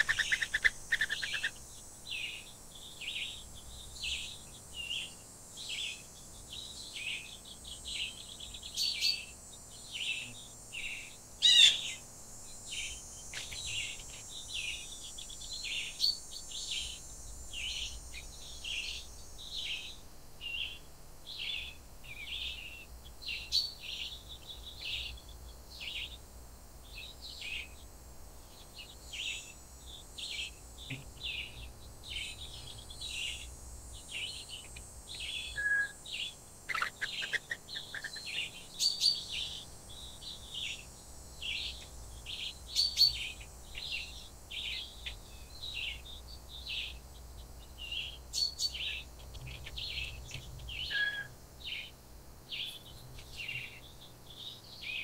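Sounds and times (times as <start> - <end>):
faint high hiss: 0.0 - 55.0
songbird chirping: 0.0 - 55.0.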